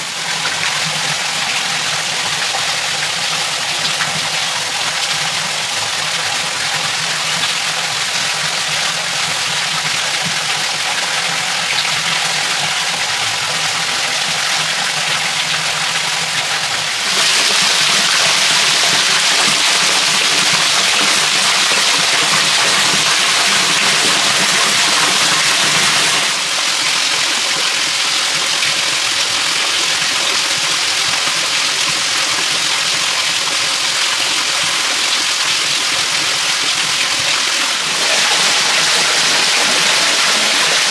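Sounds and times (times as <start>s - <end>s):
stream and small waterfall: 0.0s - 40.9s.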